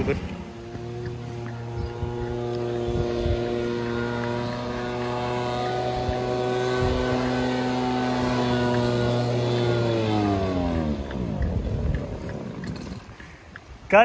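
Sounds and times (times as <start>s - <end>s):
small petrol engine running: 0.0s - 13.5s.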